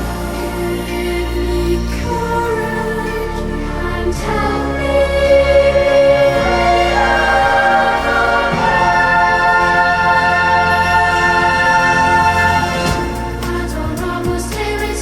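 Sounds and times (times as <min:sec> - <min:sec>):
choir-like voices: 0:00.0 - 0:15.0
held chords: 0:00.0 - 0:15.0
steady bass: 0:00.0 - 0:15.0.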